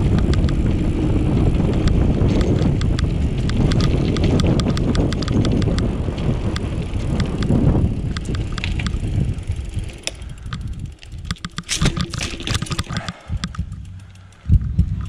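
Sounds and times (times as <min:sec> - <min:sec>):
bicycle rattling: 0:00.0 - 0:15.0
freewheel ticking: 0:00.0 - 0:15.0
wind and tyre rumble: 0:00.0 - 0:15.0.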